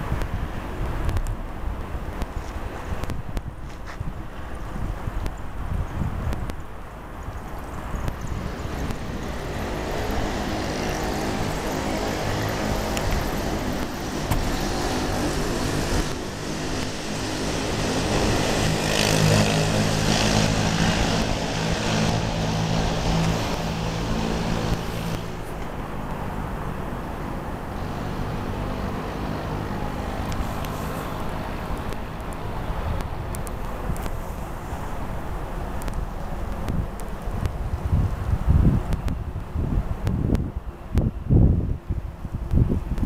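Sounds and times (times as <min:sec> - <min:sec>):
traffic hum: 0:00.0 - 0:43.0
vehicle engine hum: 0:00.0 - 0:43.0.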